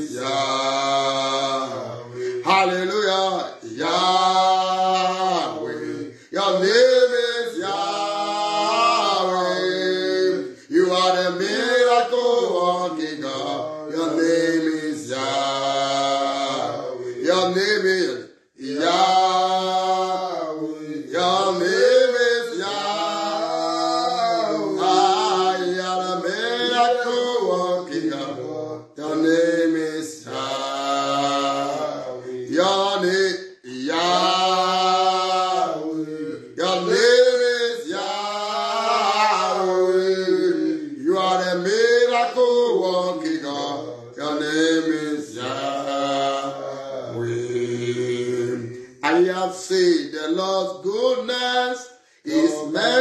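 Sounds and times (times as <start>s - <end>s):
man singing a slow chant: 0.0s - 53.0s.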